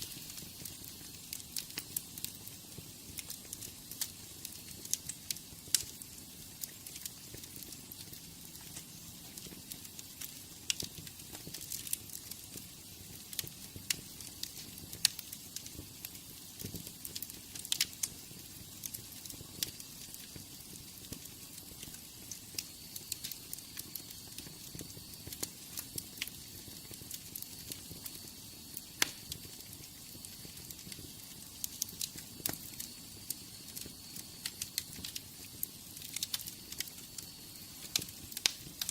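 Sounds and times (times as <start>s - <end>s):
flames hissing and rumbling: 0.0s - 38.9s
wood fire snaps and pops: 0.0s - 38.9s.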